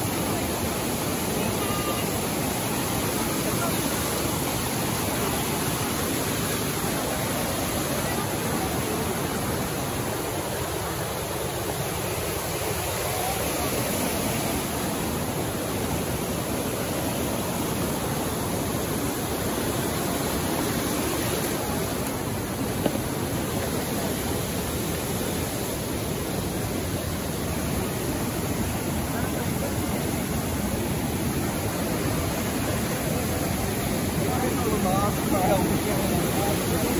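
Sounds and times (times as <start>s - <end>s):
creek water rushing over rocks: 0.0s - 36.9s.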